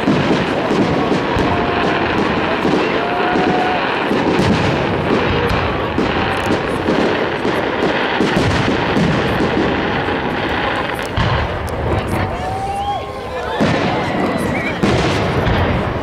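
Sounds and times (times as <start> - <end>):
fireworks barrage: 0.0 - 16.0.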